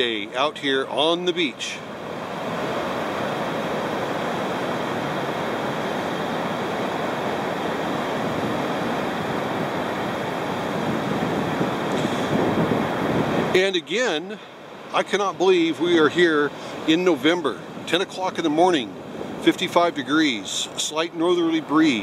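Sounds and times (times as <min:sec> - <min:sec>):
surf breaking on beach: 0:00.0 - 0:22.0.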